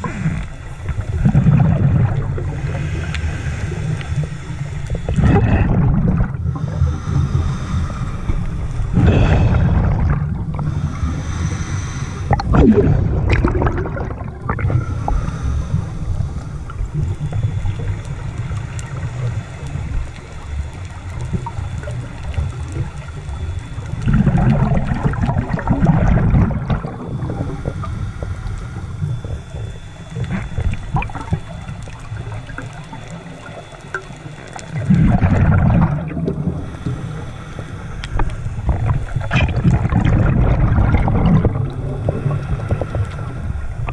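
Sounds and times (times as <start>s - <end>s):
low steady rumble: 0.0s - 43.9s
underwater exhaled bubbles: 0.0s - 43.9s.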